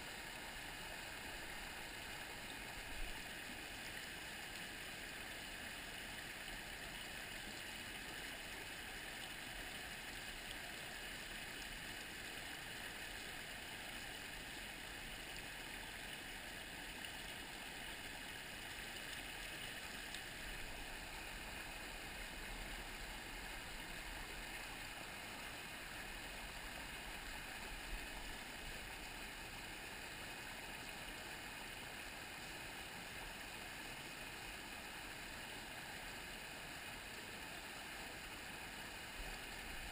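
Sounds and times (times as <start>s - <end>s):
brook running over rocks: 0.0s - 39.9s.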